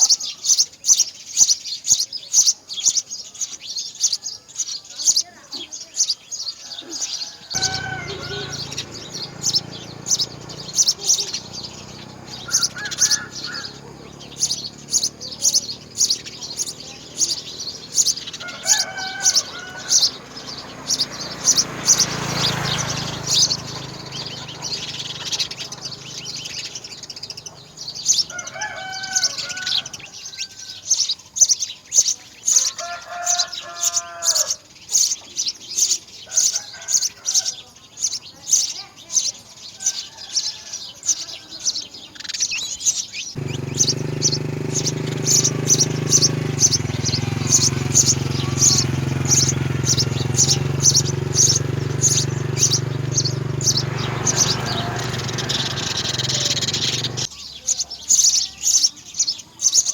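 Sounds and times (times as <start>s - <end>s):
nestlings chirping: 0.0s - 32.9s, 41.1s - 59.9s
lower bird calls: 0.0s - 38.8s, 39.8s - 59.9s.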